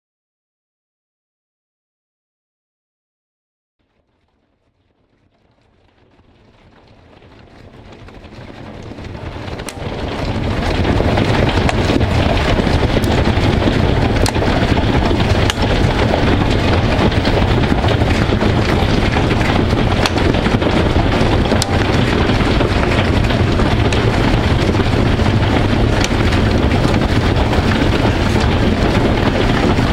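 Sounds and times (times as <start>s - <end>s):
hailstone cracking: 4.9s - 29.9s
hail pattering on concrete: 5.0s - 29.9s
wind buffeting microphone: 5.7s - 29.9s.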